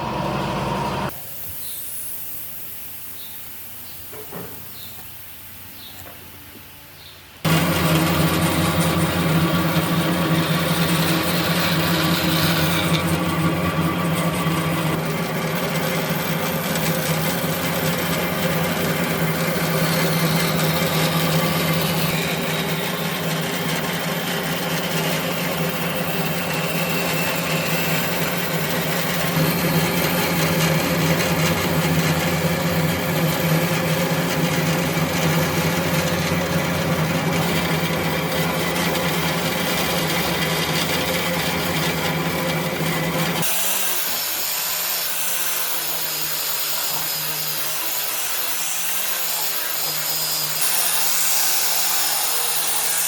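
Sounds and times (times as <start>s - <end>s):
power tool motor humming: 7.4s - 53.0s.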